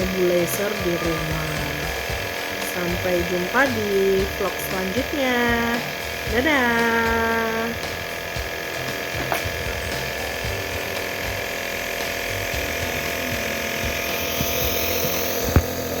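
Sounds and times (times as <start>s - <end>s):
nebulizer motor buzzing: 0.0s - 16.0s.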